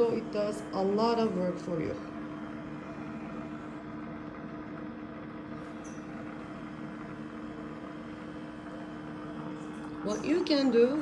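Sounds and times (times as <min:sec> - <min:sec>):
robot vacuum dock humming: 0:00.0 - 0:11.0.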